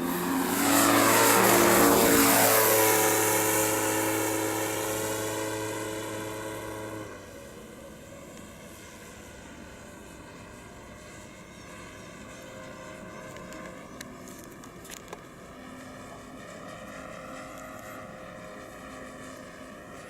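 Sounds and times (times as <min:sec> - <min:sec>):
model airplane engine drone: 0:00.0 - 0:20.0
propeller hum: 0:00.0 - 0:20.0.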